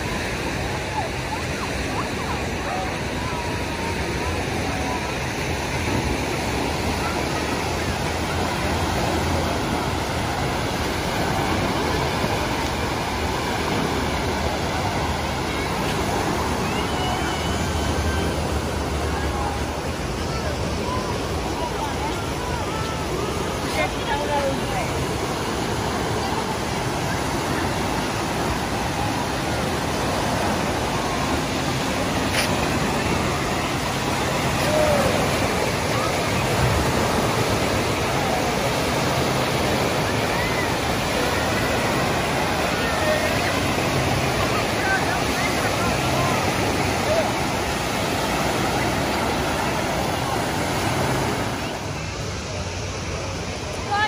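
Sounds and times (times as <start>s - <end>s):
crowd chatter: 0.0s - 54.0s
waterfalls spilling: 0.0s - 54.0s
waves washing up sand: 0.0s - 54.0s.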